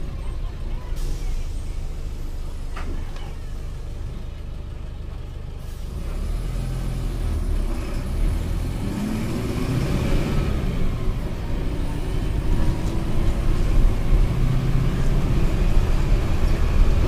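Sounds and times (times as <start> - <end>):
bus diesel engine accelerating: 0.0 - 17.0.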